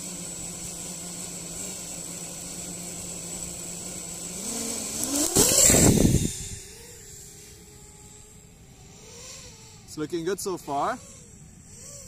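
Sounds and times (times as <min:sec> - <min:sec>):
drone motors humming and whining: 0:00.0 - 0:12.0.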